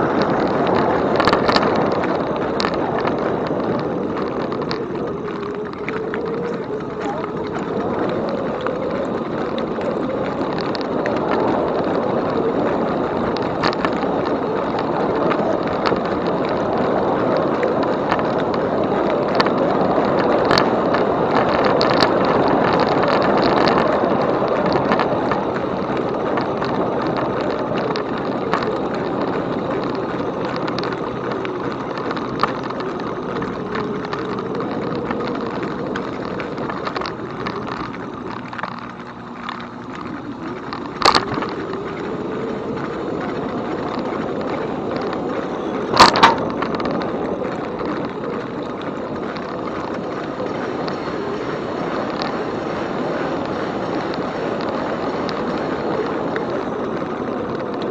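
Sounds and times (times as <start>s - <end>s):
light clicks and rattles: 0.0s - 57.9s
tyres rolling on trail: 0.0s - 57.9s
wind on microphone: 0.0s - 57.9s.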